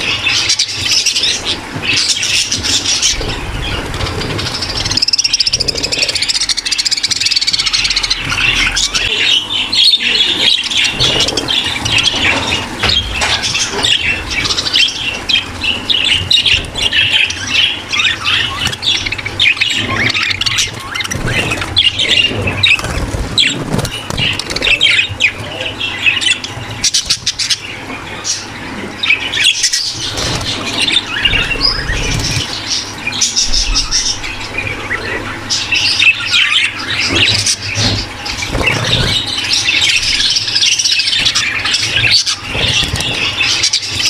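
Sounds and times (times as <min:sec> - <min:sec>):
flock of budgerigars chattering: 0:00.0 - 0:44.0
low steady hum: 0:00.0 - 0:44.0.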